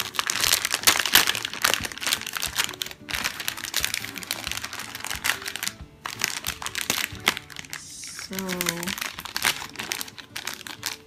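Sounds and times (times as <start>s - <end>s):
candy wrapper crinkling: 0.0s - 11.0s
faint background music: 0.0s - 11.0s.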